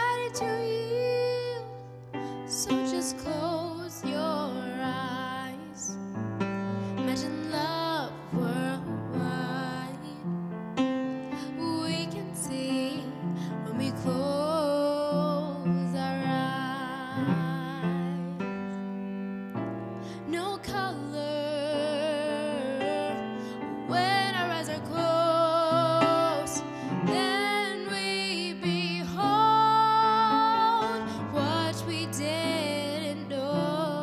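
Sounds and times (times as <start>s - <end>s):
girl singing a slow ballad: 0.0s - 34.0s
soft piano chords: 0.0s - 34.0s.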